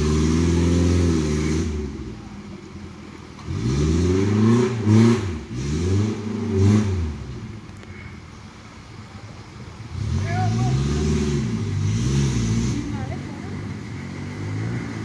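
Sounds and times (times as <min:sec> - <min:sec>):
off-road car engine revving: 0:00.0 - 0:08.1, 0:09.7 - 0:15.0.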